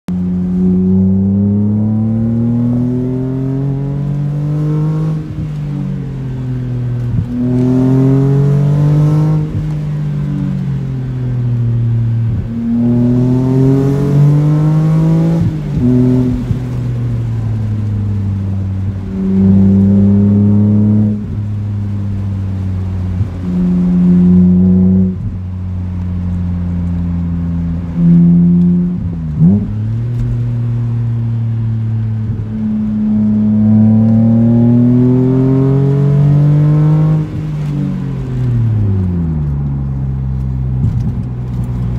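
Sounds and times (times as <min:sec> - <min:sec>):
car engine accelerating through gears: 0:00.1 - 0:41.9.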